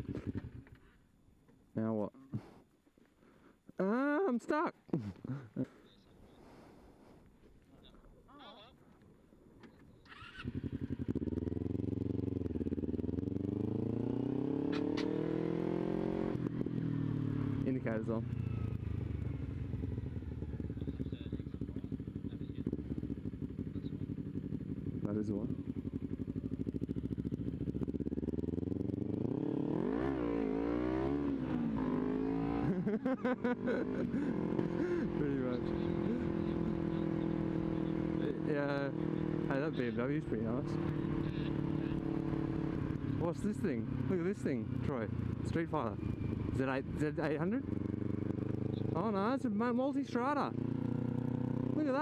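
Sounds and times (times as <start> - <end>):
motorcycle engine accelerating: 0.0 - 0.8, 10.0 - 52.0.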